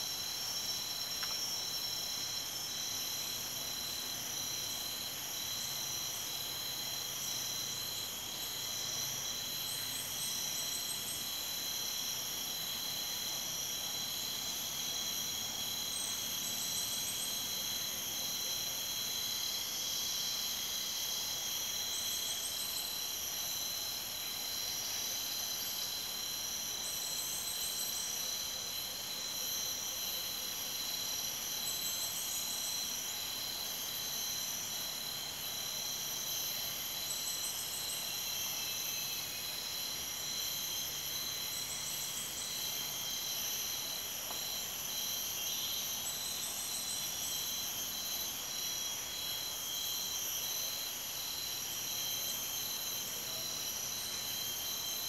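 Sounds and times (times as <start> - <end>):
high-pitched insect trills: 0.0 - 55.0
pulsing insect call: 0.0 - 55.0.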